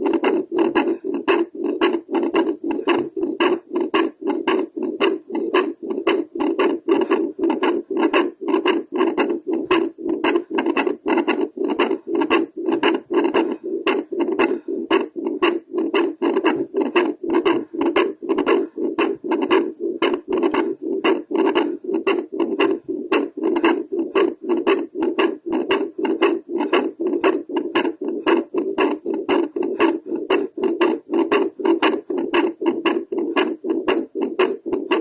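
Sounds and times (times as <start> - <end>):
doppler heartbeat whooshing pulses: 0.0 - 35.0.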